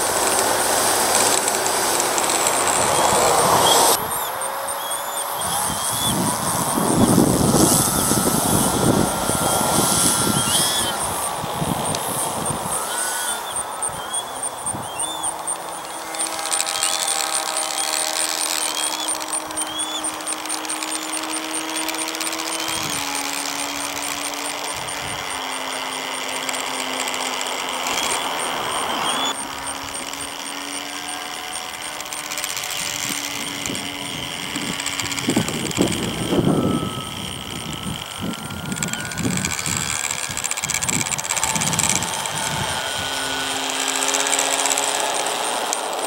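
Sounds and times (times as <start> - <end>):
model plane motor whining: 0.0 - 46.0.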